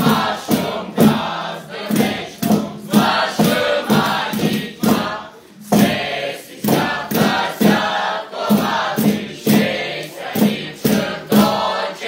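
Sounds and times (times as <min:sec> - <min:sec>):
group singing and chanting: 0:00.0 - 0:12.0.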